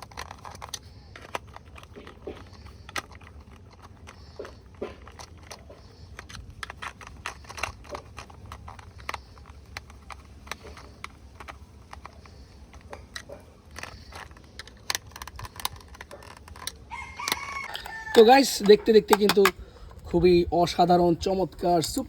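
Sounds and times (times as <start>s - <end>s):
plastic toy parts clicking: 0.0s - 20.1s
low steady hum: 0.0s - 22.0s.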